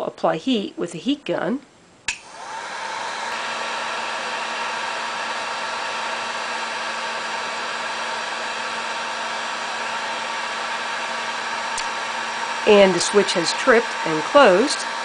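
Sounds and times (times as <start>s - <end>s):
heat gun blowing air: 2.1s - 15.0s.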